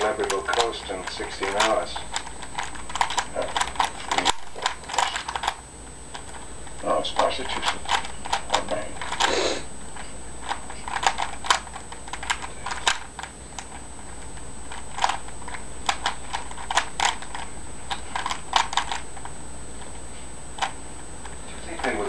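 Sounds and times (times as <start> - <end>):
puzzle cube plastic clicks: 0.0 - 9.3, 10.4 - 19.3.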